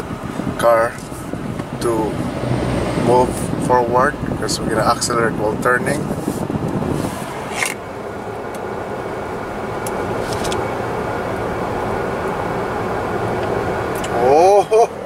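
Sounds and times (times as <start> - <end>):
road and engine noise: 0.0 - 15.0.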